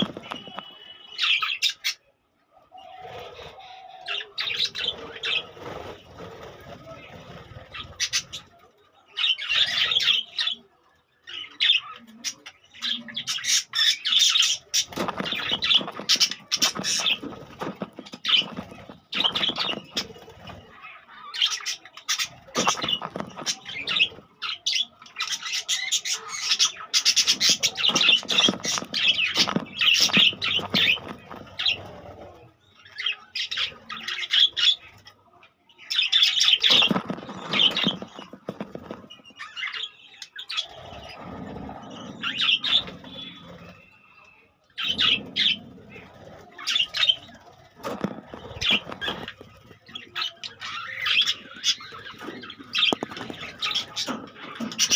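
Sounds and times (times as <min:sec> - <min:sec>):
budgerigars chattering and squawking: 0:00.0 - 0:02.1, 0:02.7 - 0:08.6, 0:09.2 - 0:10.7, 0:11.3 - 0:54.9.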